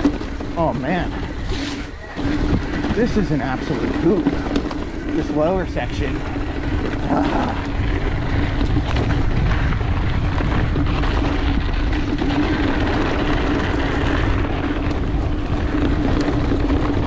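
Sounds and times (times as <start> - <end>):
tyres rolling on dirt: 0.0 - 17.0
wind rushing over microphone: 0.0 - 17.0.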